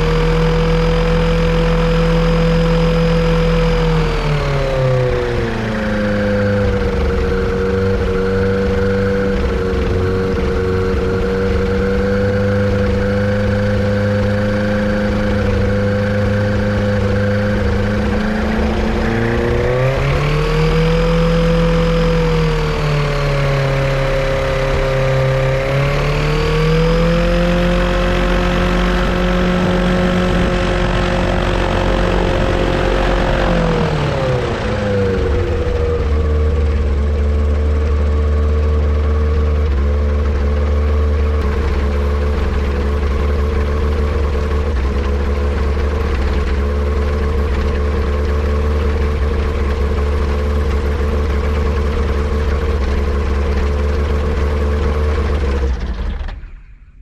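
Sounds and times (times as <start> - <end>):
light airplane engine: 0.0 - 57.0.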